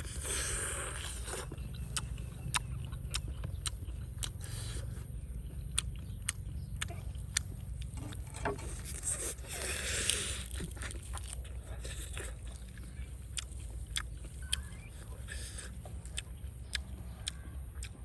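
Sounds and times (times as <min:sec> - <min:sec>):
low background hum: 0:00.0 - 0:18.0
person chewing with crunching: 0:00.0 - 0:18.0.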